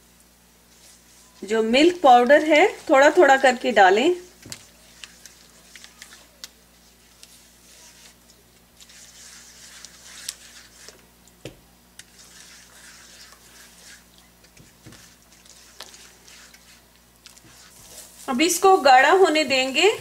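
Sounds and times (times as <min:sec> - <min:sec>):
spatula stirring in pan: 0:00.6 - 0:11.3, 0:11.9 - 0:19.9.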